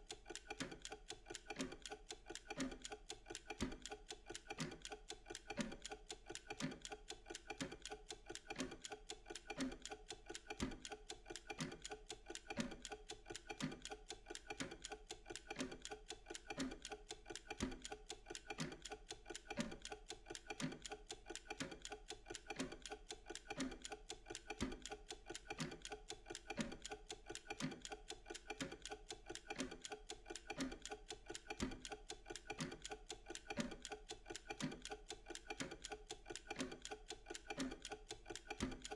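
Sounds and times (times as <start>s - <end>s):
mechanical timer ticking: 0.0s - 38.9s.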